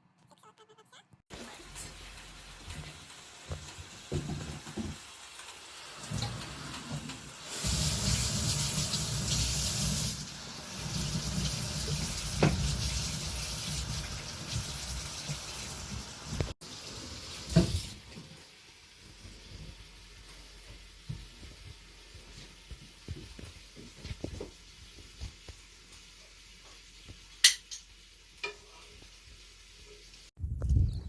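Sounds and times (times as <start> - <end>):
tap water running: 1.3 - 30.3.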